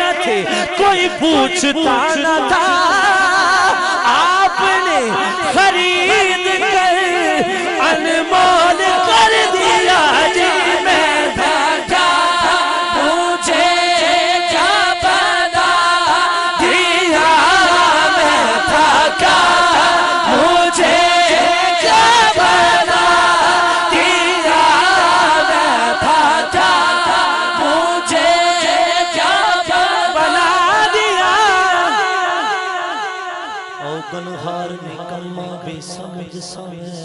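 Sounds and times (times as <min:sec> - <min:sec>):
men singing through pa: 0:00.0 - 0:37.0
men's chorus drone: 0:02.9 - 0:34.8.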